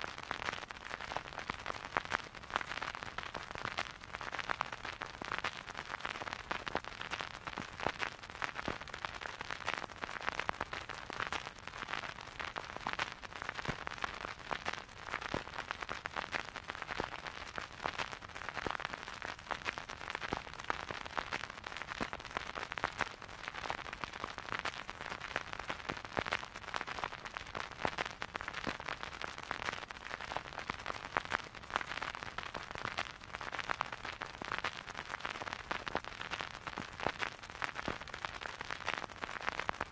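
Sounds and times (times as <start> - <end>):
vinyl record crackle: 0.0 - 39.9.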